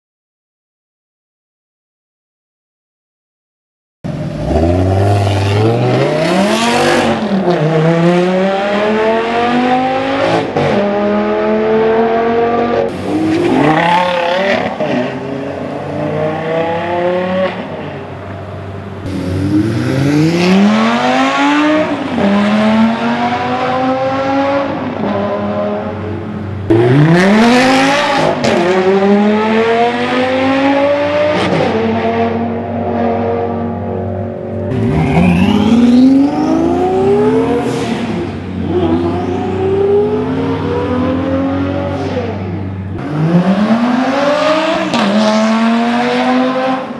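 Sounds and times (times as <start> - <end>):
sports car engine accelerating: 4.1 - 46.9.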